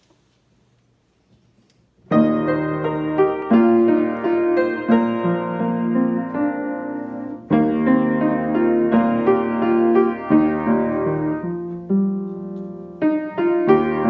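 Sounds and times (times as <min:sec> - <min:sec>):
slow hymn on piano: 0:02.1 - 0:14.0.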